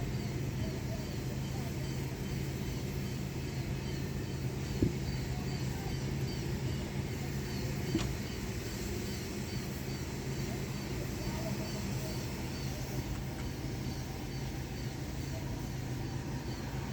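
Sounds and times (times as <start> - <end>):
car wash equipment humming: 0.0 - 16.9.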